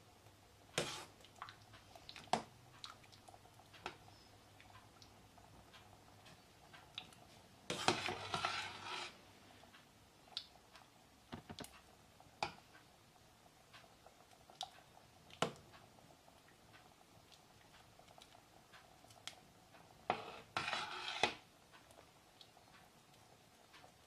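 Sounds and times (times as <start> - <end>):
ladle stirring soup in a pot: 0.6 - 11.0, 11.6 - 24.0.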